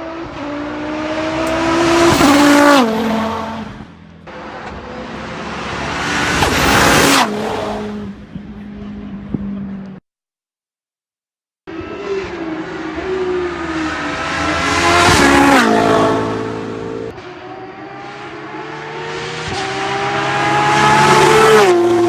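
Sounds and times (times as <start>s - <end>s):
race cars passing at full throttle: 0.0s - 10.0s, 11.7s - 22.0s.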